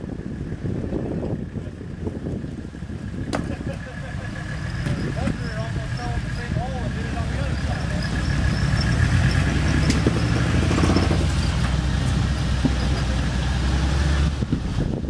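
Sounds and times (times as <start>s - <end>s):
diesel engine rumbling at low revs: 0.0s - 15.0s.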